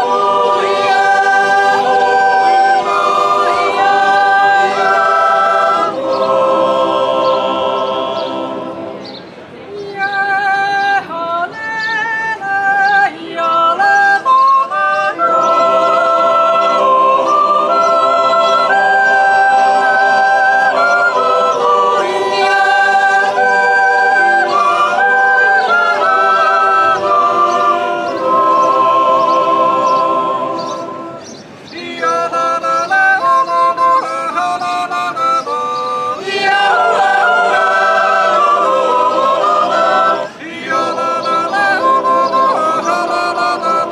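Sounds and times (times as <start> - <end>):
yodel choir singing a cappella: 0.0 - 43.9.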